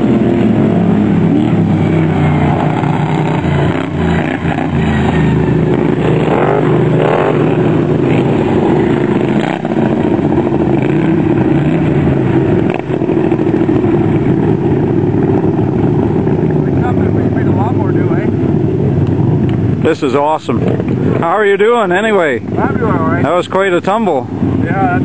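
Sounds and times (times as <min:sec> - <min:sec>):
lawn mower engines racing: 0:00.0 - 0:25.0.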